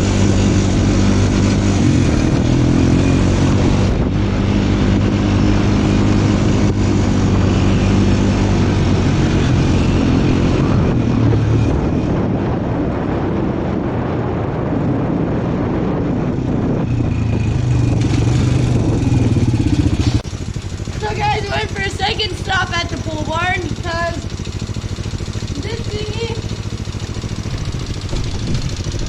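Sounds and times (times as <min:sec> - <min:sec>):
off-road vehicle engine: 0:00.0 - 0:29.0.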